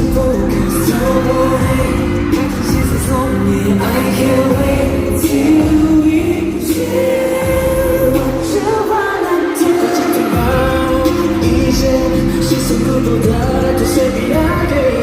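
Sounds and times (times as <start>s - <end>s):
live pop concert music with singing: 0.0s - 15.0s.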